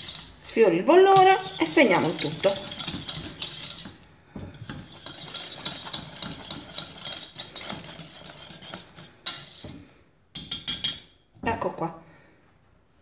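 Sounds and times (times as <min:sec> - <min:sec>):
whisk scraping a metal pot: 0:00.0 - 0:11.0.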